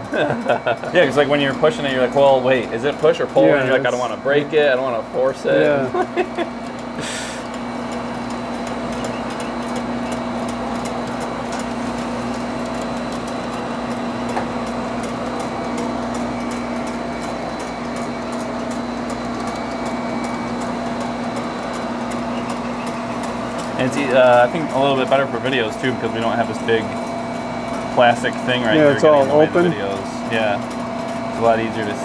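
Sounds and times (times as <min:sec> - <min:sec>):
machine motor hum: 0:00.0 - 0:32.0
light regular ticking: 0:00.6 - 0:32.0.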